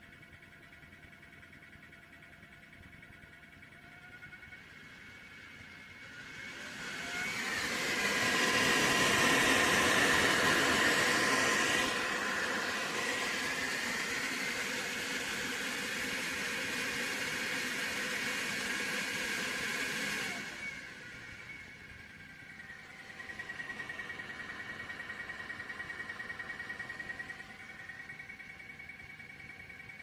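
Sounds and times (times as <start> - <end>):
three d printer whirring: 0.0 - 30.0.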